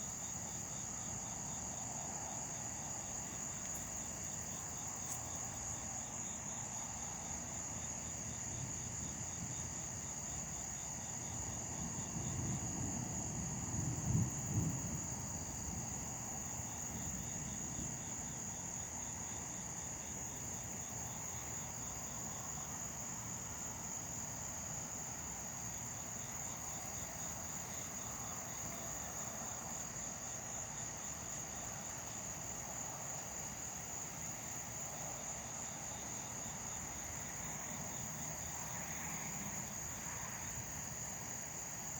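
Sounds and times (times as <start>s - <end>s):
insects trilling: 0.0s - 41.9s
rapid insect chirping: 0.0s - 41.9s.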